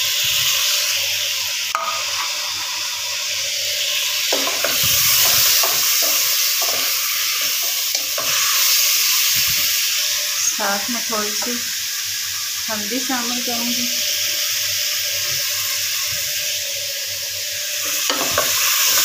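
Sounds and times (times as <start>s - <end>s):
tomatoes sizzling in hot oil: 0.0s - 19.0s.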